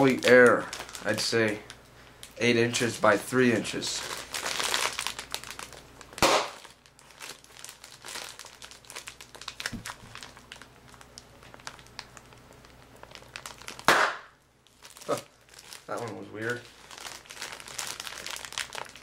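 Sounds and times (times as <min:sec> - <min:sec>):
air-pillow packing film crackling: 0:00.0 - 0:19.0.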